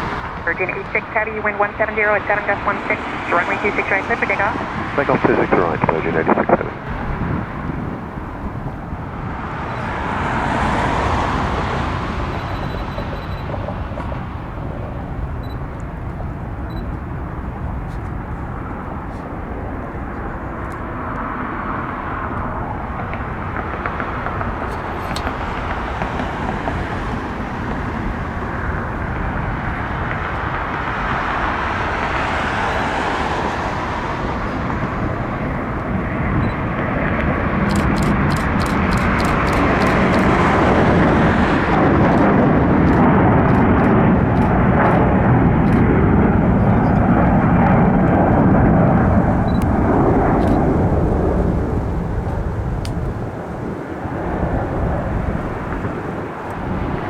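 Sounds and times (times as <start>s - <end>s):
deep engine rumble: 0.0s - 57.0s
jet engines at takeoff: 0.0s - 57.0s.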